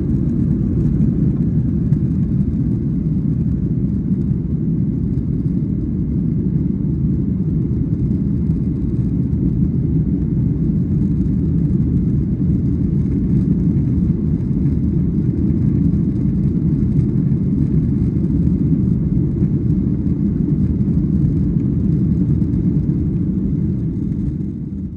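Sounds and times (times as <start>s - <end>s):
jet engines rumbling: 0.0s - 24.9s.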